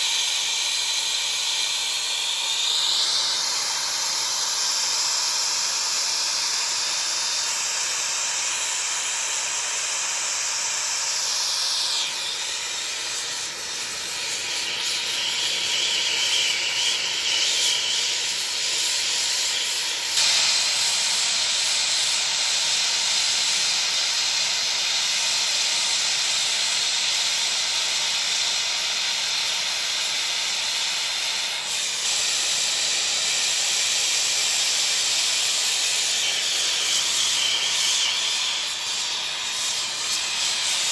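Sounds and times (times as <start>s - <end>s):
torch burning with a hiss: 0.0s - 40.9s.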